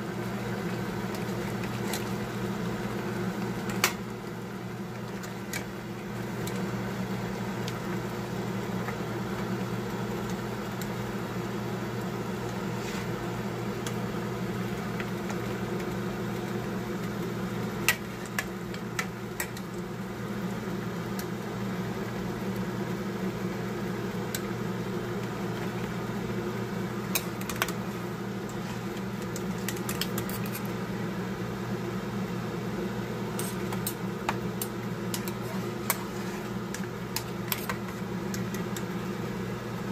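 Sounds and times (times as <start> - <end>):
steady mechanical hum: 0.0 - 39.9.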